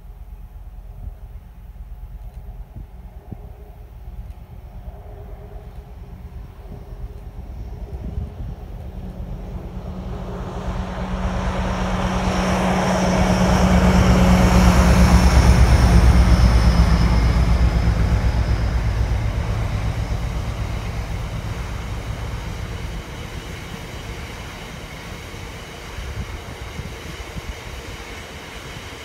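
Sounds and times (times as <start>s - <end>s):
diesel locomotive engine hum: 0.0s - 29.0s.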